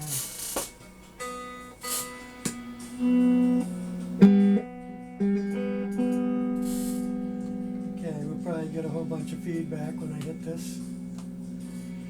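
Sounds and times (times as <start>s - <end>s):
electric guitar notes and chords: 0.0s - 12.0s.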